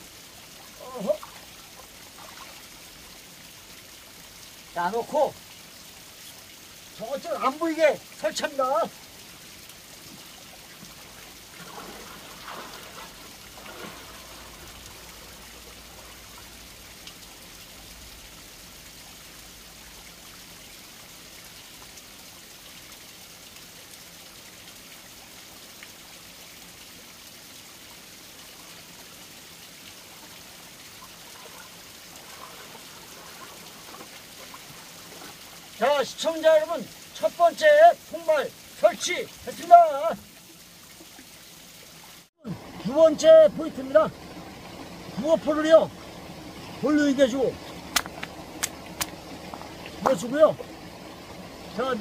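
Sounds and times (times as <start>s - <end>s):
stream flowing over rocks: 0.0s - 52.0s.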